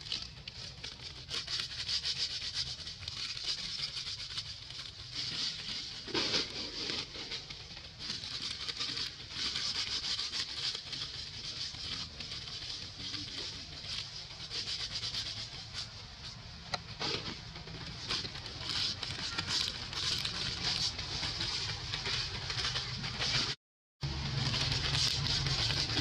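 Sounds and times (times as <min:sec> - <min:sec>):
soft crackles and rustles: 0:00.0 - 0:26.0.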